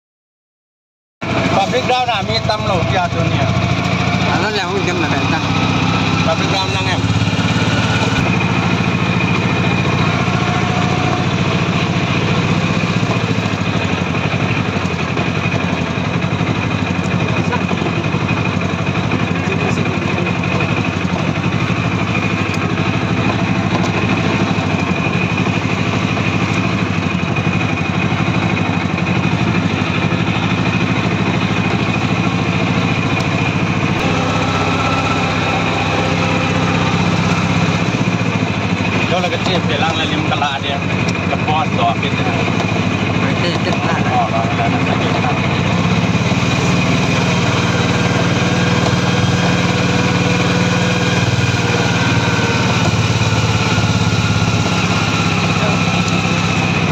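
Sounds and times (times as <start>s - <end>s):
vehicle engine and road noise: 1.2s - 56.9s.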